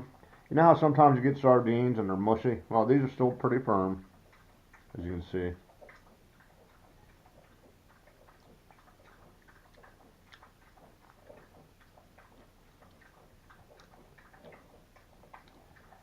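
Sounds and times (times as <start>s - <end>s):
faint wet chewing: 0.0s - 16.0s.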